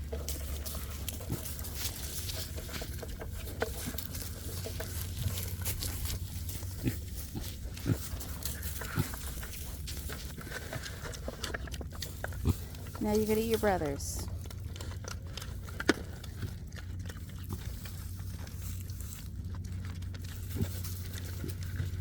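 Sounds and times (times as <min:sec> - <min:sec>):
pigs crunching dry feed: 0:00.0 - 0:22.0.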